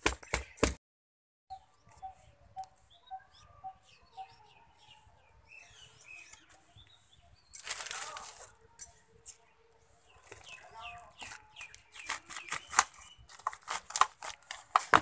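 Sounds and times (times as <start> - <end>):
small birds chirping: 1.5 - 15.0.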